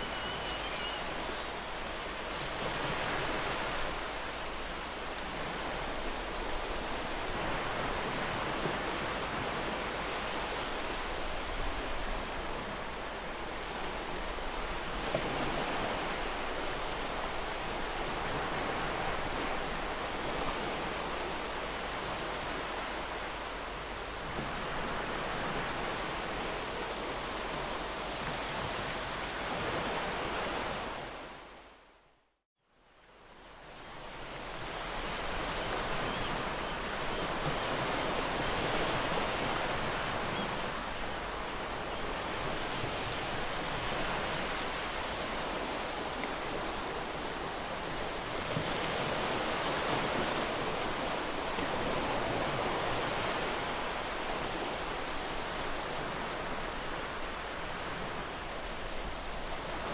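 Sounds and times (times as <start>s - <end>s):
waves breaking on shore: 0.0s - 31.8s, 33.0s - 59.9s.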